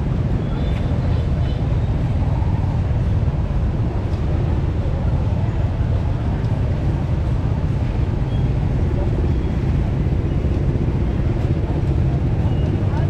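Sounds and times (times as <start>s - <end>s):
passing motor traffic rumble: 0.0s - 13.0s.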